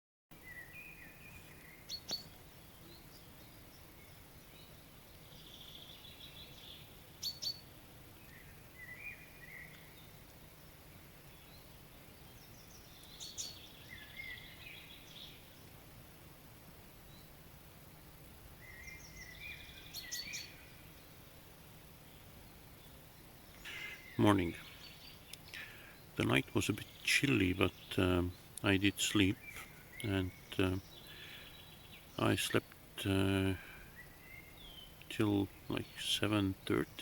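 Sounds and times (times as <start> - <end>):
faint steady hiss: 0.3 - 37.0
birds singing and calling: 0.4 - 15.8, 18.5 - 37.0.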